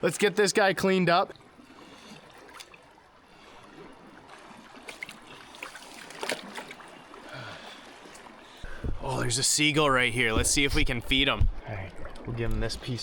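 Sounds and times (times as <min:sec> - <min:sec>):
faint water sounds: 0:00.0 - 0:13.0.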